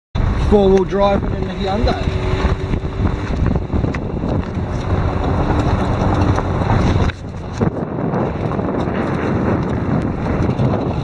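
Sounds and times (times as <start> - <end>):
car driving on dirt track: 0.2 - 11.0
wind buffeting microphone: 0.2 - 11.0.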